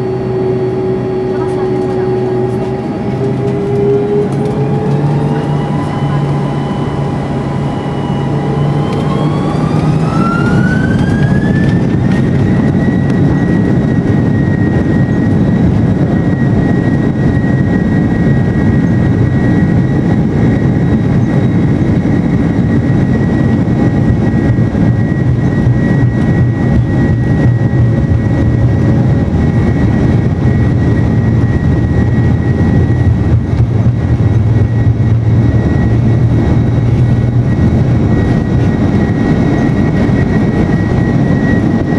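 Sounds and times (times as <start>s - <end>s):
jet engine whine: 0.0s - 41.9s
loud continuous rumble: 0.0s - 41.9s.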